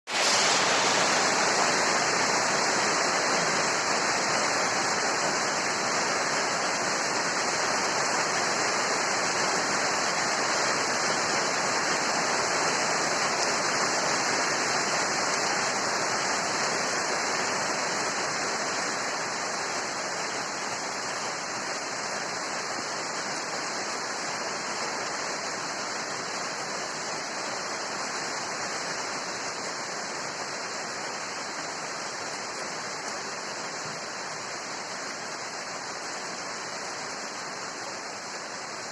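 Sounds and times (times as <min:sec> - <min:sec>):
rain falling steadily: 0:00.1 - 0:38.9.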